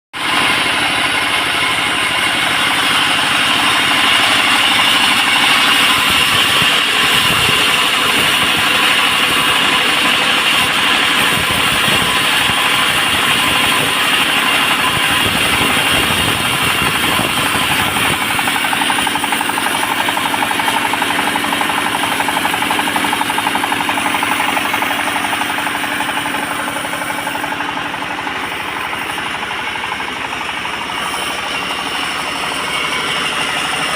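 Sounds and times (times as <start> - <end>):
bandsaw cutting wood: 0.2 - 33.9.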